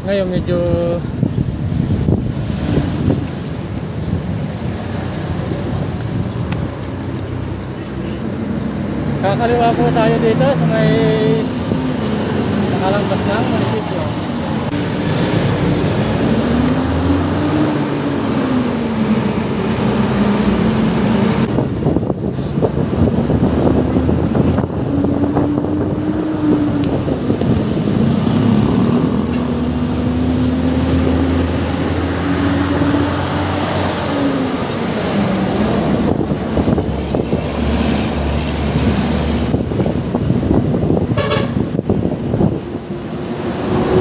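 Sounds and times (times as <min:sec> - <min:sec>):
passing vehicles engine hum: 0:00.0 - 0:44.0
road traffic rush: 0:00.0 - 0:44.0.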